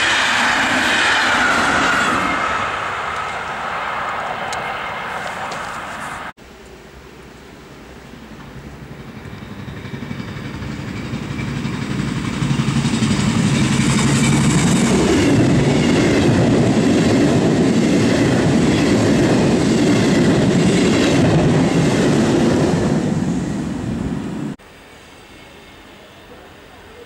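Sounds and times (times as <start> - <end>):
train wheels rumbling on rails: 0.0 - 6.3, 8.3 - 24.6.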